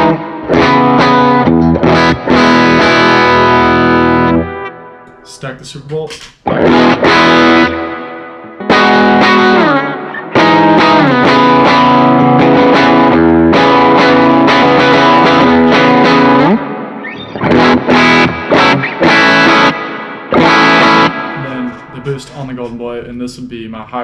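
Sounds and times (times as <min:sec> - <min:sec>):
distorted electric guitar chords: 0:00.0 - 0:05.4, 0:06.1 - 0:22.7.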